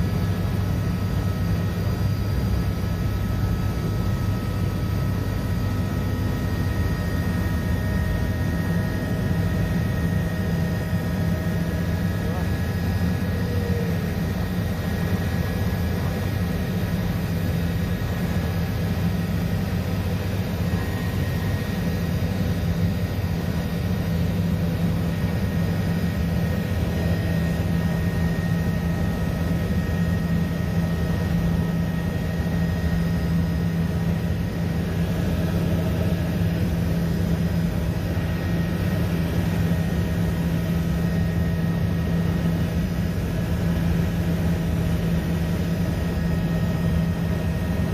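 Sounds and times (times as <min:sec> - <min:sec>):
helicopter engine drone: 0:00.0 - 0:47.9
high turbine whine: 0:00.0 - 0:47.9.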